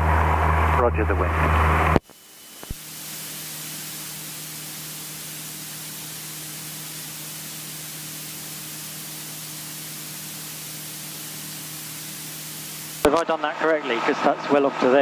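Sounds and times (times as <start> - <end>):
headset audio hiss: 1.8 - 13.9.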